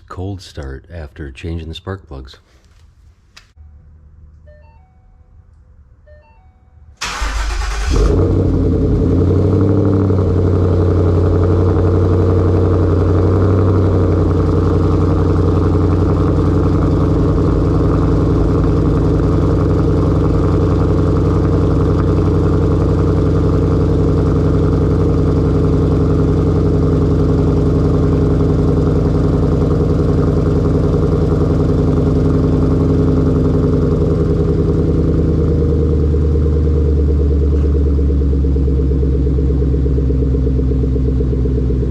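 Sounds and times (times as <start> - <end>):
car engine cranking and starting: 7.0 - 41.9
car engine fast idling: 7.0 - 41.9.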